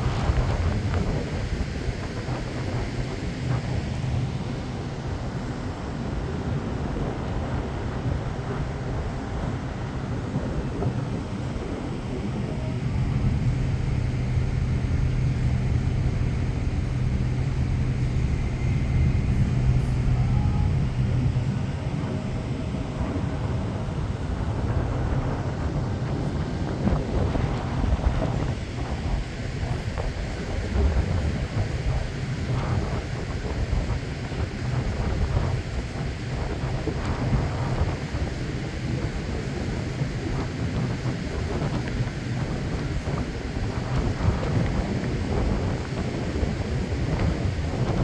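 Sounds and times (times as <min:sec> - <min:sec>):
low engine hum: 0:00.0 - 0:48.0
wind noise on microphone: 0:00.0 - 0:48.0.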